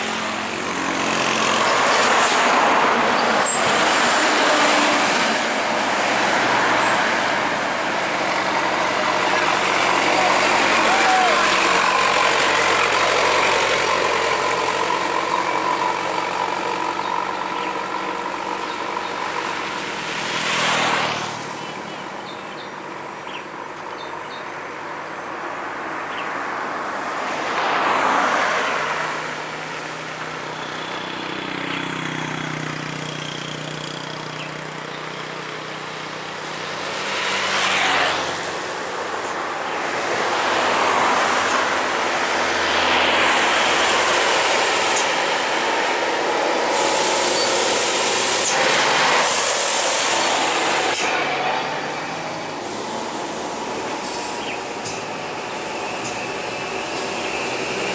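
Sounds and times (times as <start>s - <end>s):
diesel truck engines droning: 0.0s - 57.9s.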